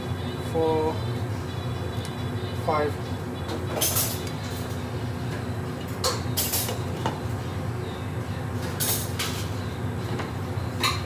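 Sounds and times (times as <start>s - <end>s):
low kitchen hum: 0.0s - 11.0s.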